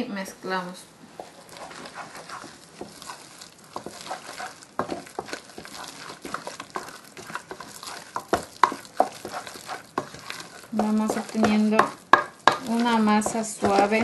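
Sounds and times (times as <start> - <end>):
hand squelching mashed potato: 1.2 - 14.0.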